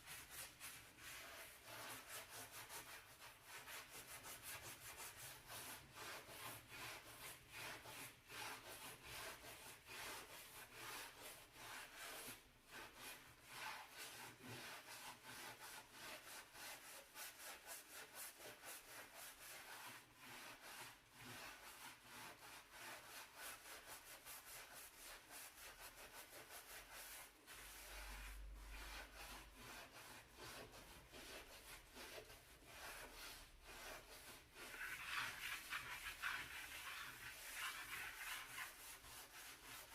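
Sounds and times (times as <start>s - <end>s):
brush scrubbing a stove: 0.0s - 39.9s.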